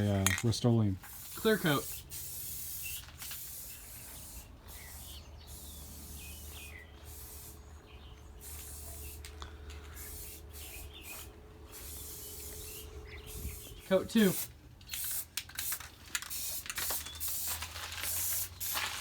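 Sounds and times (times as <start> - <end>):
aerosol spray can hissing: 1.1 - 7.6, 8.4 - 9.3, 10.0 - 18.8.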